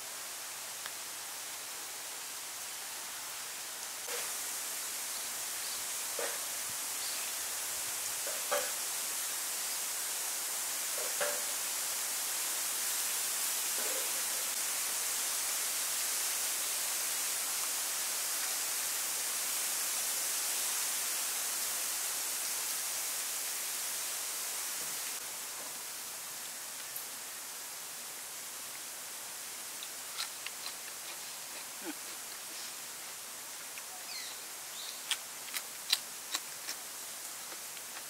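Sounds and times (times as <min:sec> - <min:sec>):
steady high hiss: 0:00.0 - 0:38.0.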